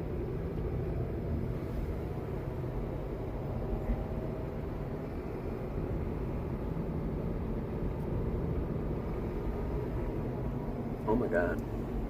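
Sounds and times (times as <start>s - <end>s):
car engine: 0.0s - 12.0s
road noise: 0.0s - 12.0s.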